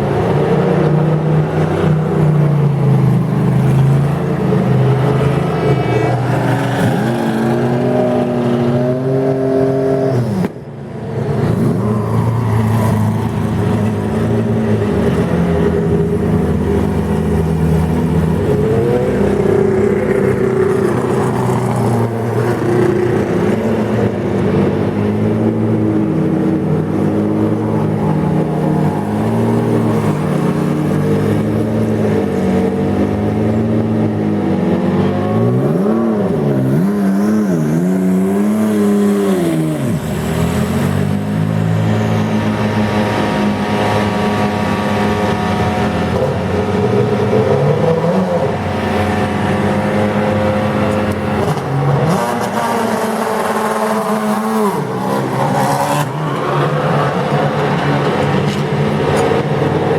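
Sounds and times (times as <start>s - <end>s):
race car engines running: 0.0s - 59.9s.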